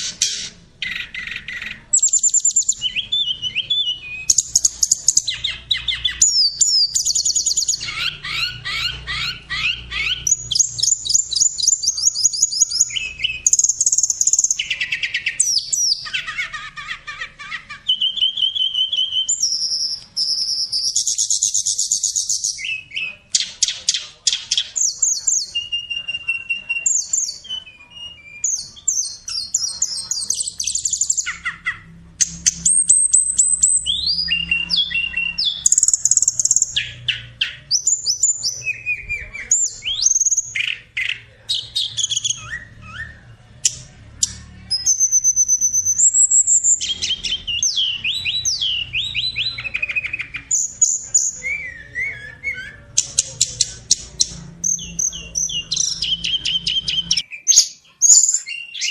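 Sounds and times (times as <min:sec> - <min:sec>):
cockatiel chirping and chattering: 0:00.0 - 0:58.9.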